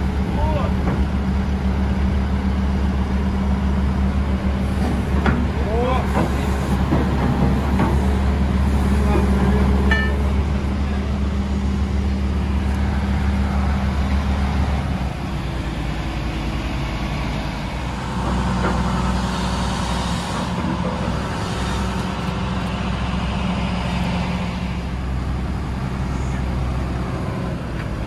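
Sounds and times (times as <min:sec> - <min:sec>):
excavator diesel engine idling: 0:00.0 - 0:28.0.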